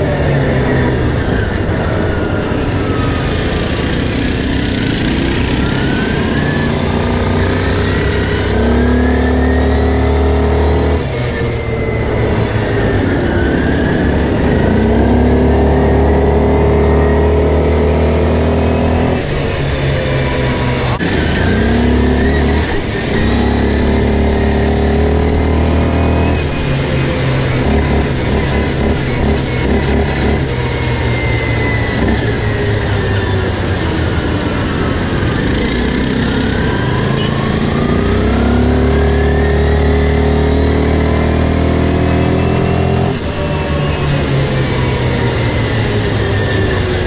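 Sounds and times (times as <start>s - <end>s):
quad bike engine revving: 0.0s - 47.0s.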